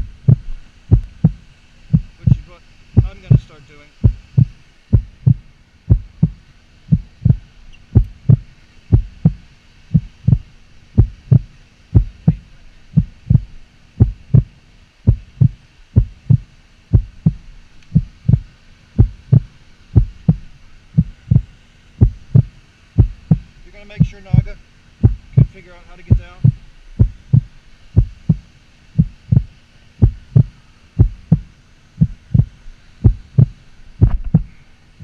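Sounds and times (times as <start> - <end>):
low thumps in pairs: 0.0 - 14.5, 15.1 - 34.5.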